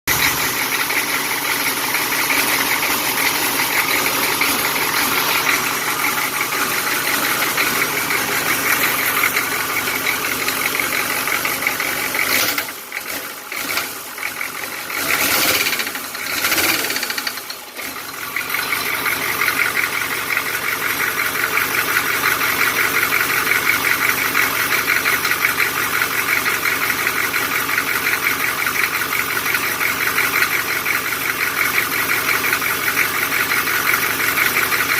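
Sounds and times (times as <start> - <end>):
diesel engine idling with knock: 0.1 - 34.9.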